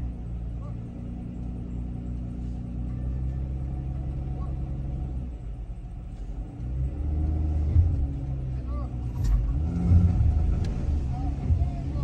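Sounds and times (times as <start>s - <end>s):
van engine revving: 0.0s - 12.0s.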